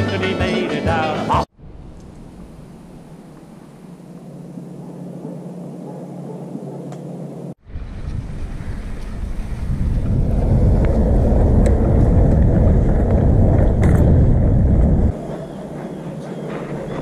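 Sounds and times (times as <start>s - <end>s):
wind buffeting microphone: 1.6s - 17.0s.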